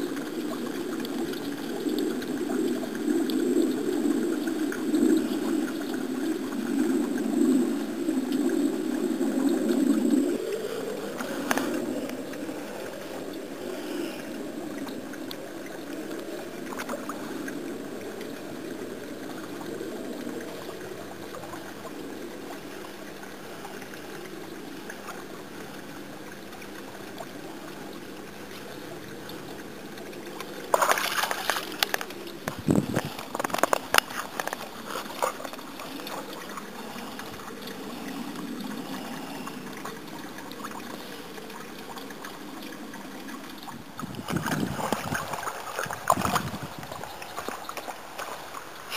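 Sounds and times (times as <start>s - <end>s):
fountain water trickling: 0.0s - 48.9s.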